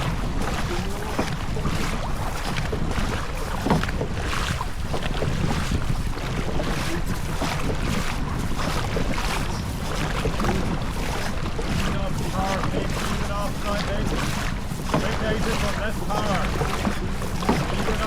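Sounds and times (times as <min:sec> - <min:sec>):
rushing water around boat: 0:00.0 - 0:18.0
wind buffeting microphone: 0:00.0 - 0:18.0.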